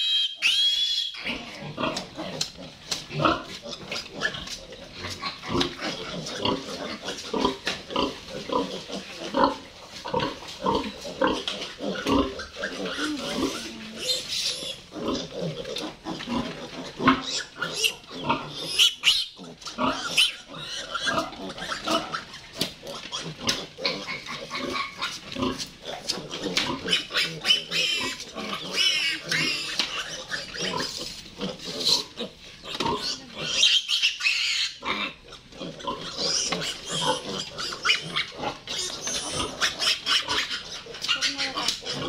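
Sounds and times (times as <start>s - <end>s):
piglets squealing: 0.0s - 2.5s, 10.2s - 42.0s.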